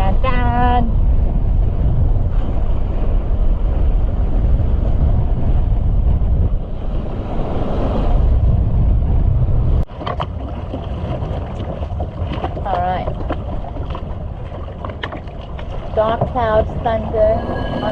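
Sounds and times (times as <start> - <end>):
strong wind buffeting microphone: 0.0 - 17.9.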